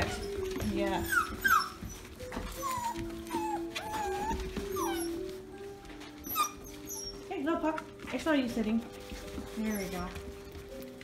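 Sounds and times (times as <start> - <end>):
puppies whining and yipping: 0.0 - 8.0, 8.8 - 11.0.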